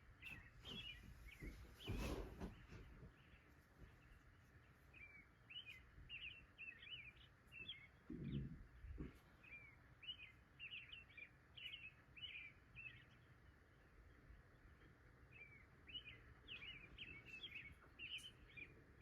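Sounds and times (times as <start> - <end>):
small bird chirping: 0.1 - 19.0.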